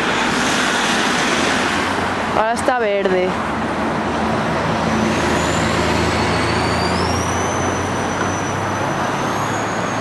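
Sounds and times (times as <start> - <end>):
bus engine hum: 0.0 - 10.0
road noise: 0.0 - 10.0.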